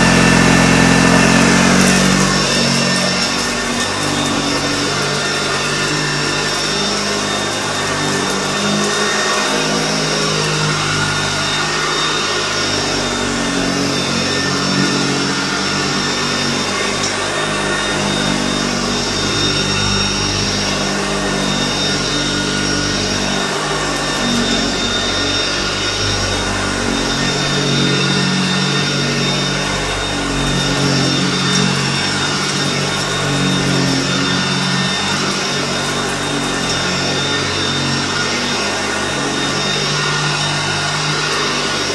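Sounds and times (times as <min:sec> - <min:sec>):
upright vacuum cleaner running: 0:00.0 - 0:41.9.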